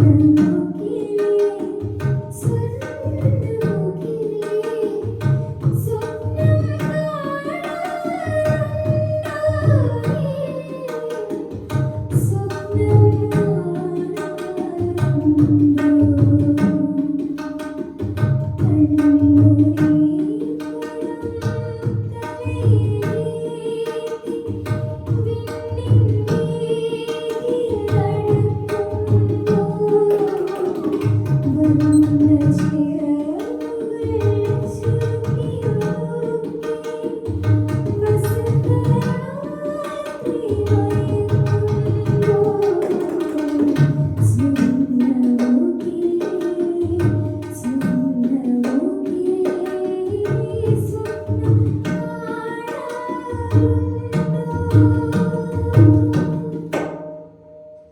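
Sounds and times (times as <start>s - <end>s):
tabla rhythm: 0.0s - 57.9s.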